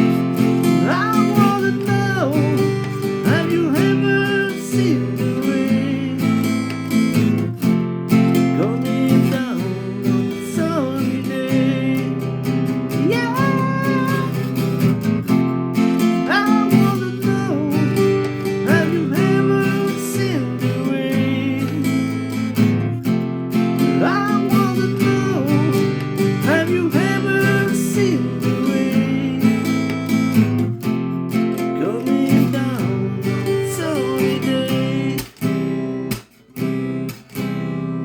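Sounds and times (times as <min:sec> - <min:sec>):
person singing: 0:00.0 - 0:07.5, 0:08.2 - 0:15.1, 0:15.8 - 0:22.9, 0:23.6 - 0:30.5, 0:31.5 - 0:35.4
acoustic guitar strumming: 0:00.0 - 0:38.0.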